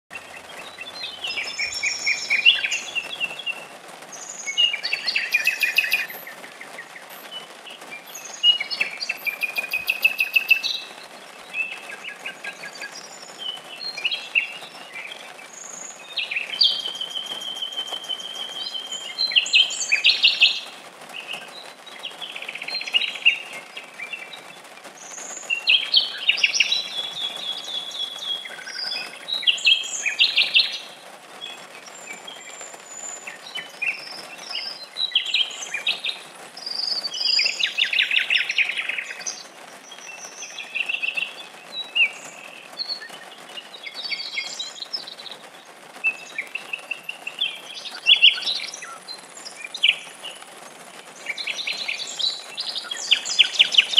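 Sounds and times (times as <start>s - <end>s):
nightingale singing: 0.1s - 53.9s
rain falling on foliage: 0.1s - 53.9s.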